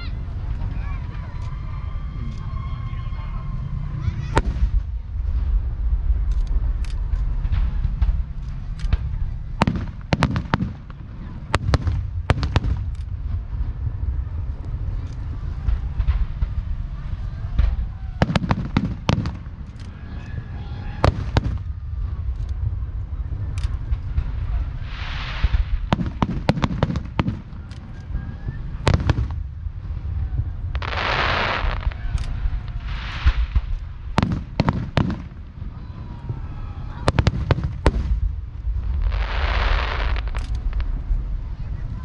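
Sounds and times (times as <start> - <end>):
crackling hiss of fireworks: 0.0 - 42.0
steady low rumble: 0.0 - 42.0
firework shells bursting with bangs: 5.6 - 13.9, 14.5 - 41.1.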